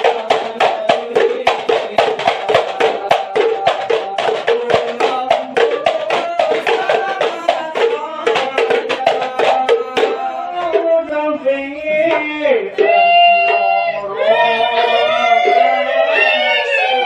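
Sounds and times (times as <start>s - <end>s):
frame drums beating: 0.0s - 17.0s
men chanting: 0.0s - 17.0s.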